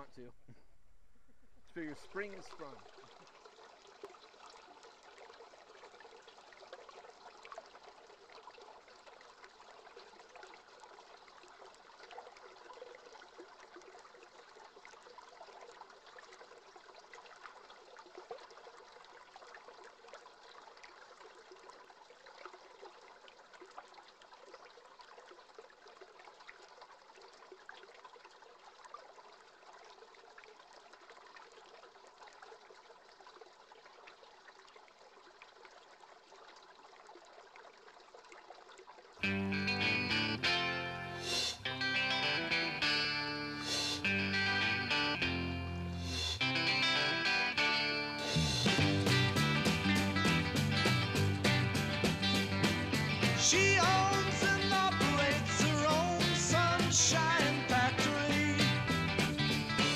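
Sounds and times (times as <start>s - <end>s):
river water babbling: 0.0s - 57.8s.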